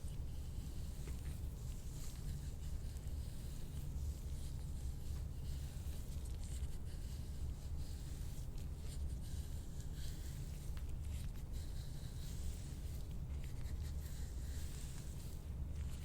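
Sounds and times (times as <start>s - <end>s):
scraping on skin: 0.0s - 16.0s
steady low hum: 0.0s - 16.0s.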